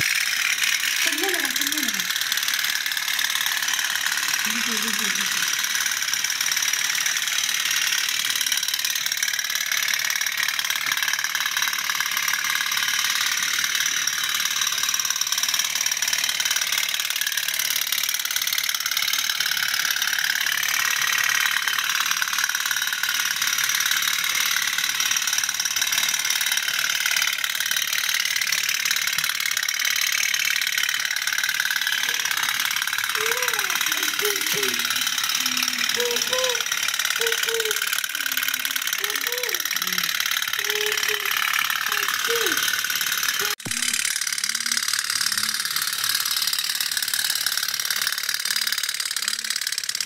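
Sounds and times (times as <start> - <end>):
toy steam boats puttering: 0.0 - 50.0.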